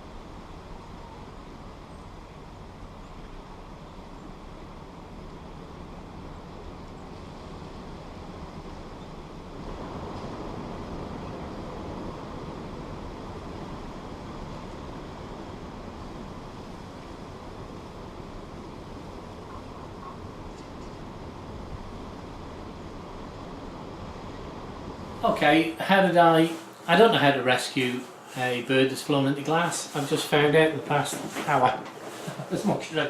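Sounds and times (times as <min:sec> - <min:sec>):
steady rumbling background noise: 0:00.0 - 0:33.0.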